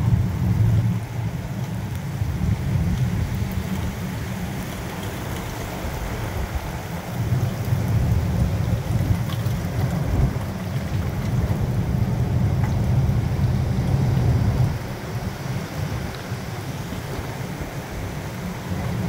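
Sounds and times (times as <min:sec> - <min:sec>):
rain falling: 0:00.0 - 0:19.0
wind buffeting microphone: 0:00.0 - 0:19.0.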